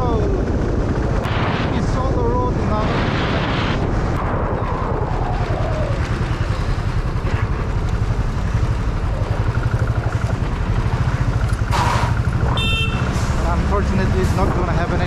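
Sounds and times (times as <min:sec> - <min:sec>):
motorcycle engine running: 0:00.0 - 0:02.6, 0:03.9 - 0:15.0.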